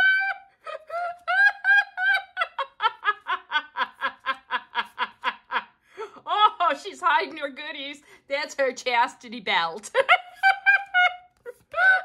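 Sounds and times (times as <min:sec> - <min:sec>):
woman laughing: 0:00.0 - 0:07.5, 0:09.7 - 0:12.0.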